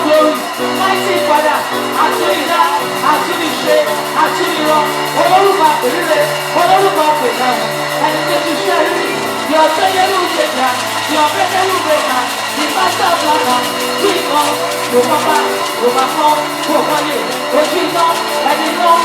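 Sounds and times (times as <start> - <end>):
live praise band music: 0.0 - 19.0
people singing: 0.0 - 19.0.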